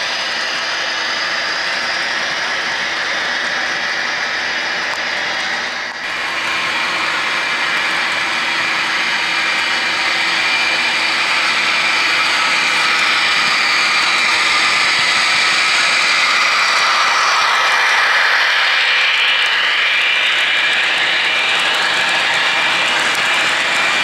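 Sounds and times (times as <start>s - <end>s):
diesel engine sound from small speakers: 0.0s - 24.0s
model train motor and wheel noise: 0.0s - 24.0s.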